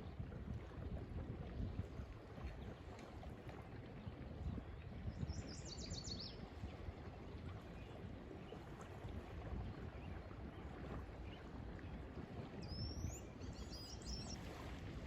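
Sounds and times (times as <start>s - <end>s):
water lapping at shore: 0.0s - 15.0s.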